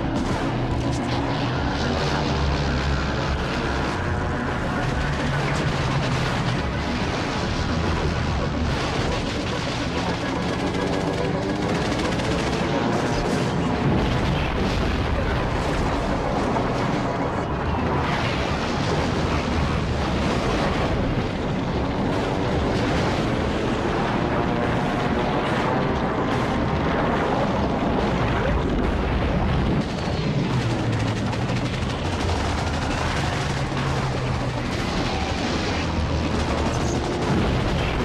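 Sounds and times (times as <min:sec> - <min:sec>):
gunfire: 0:00.0 - 0:38.0.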